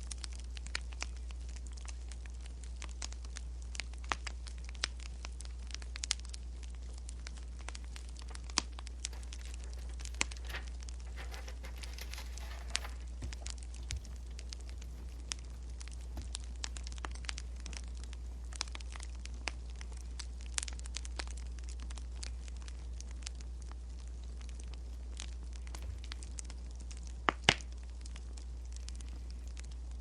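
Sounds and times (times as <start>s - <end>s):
steady low hum: 0.0s - 30.0s
wood fire crackling: 0.0s - 30.0s.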